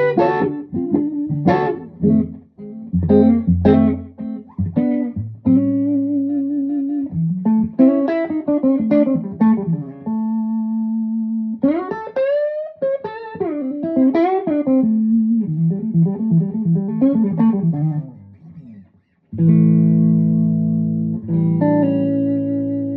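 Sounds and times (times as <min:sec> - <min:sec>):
electric guitar lead phrase: 0:00.0 - 0:22.9.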